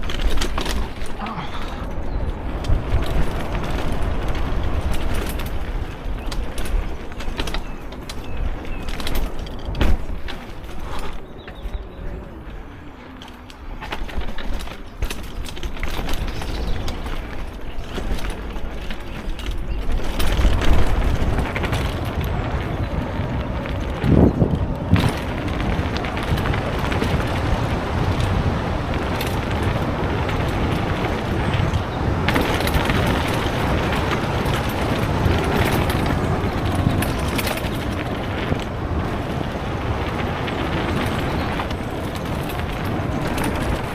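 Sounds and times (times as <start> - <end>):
car engine and tyre noise: 0.0 - 43.9.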